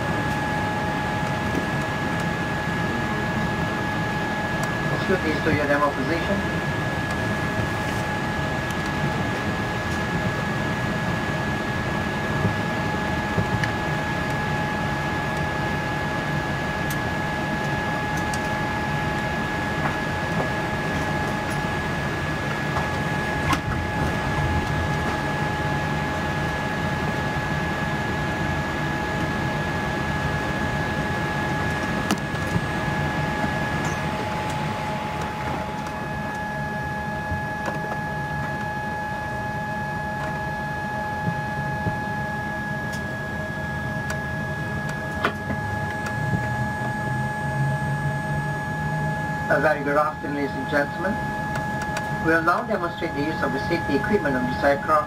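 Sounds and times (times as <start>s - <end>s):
aircraft cabin rumble: 0.0s - 47.5s
steady whining tones: 0.0s - 55.0s.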